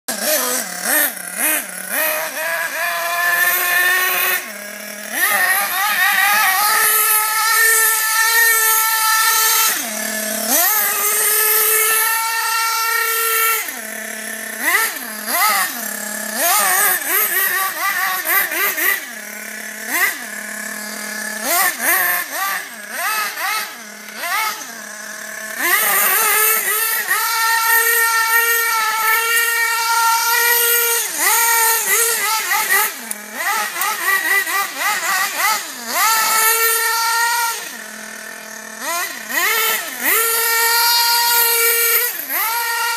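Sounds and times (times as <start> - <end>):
small engine revving and idling: 0.0 - 42.9.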